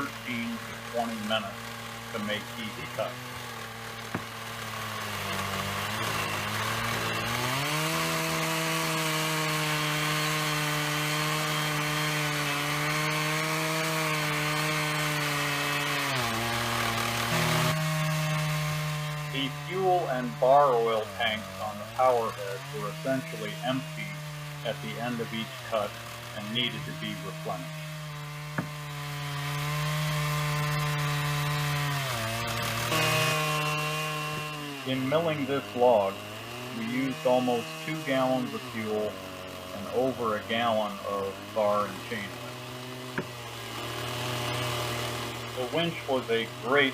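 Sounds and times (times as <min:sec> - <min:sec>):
chainsaw cutting log under load: 0:00.0 - 0:46.9.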